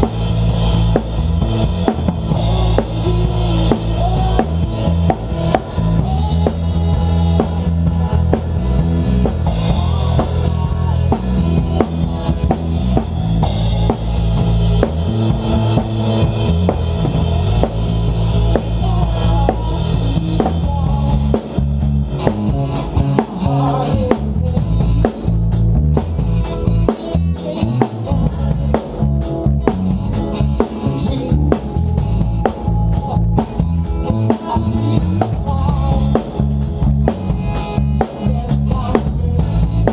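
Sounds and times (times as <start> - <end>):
drums: 0.0 - 39.9
live band playing: 0.0 - 39.9.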